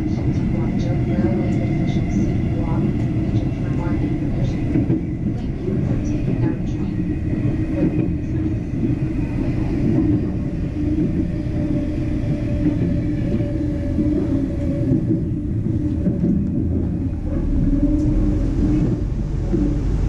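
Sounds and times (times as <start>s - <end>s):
wheels rumbling on rails: 0.0s - 20.0s.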